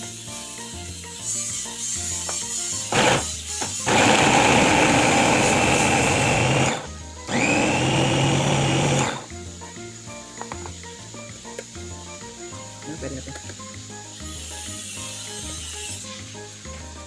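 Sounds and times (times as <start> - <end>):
background music: 0.0 - 17.0
electric meat grinder motor whine: 0.0 - 17.0.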